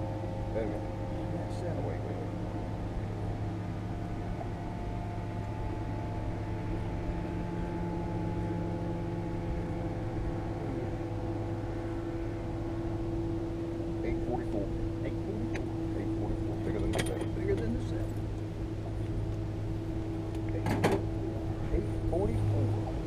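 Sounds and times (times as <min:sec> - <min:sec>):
boat motor hum: 0:00.0 - 0:23.0.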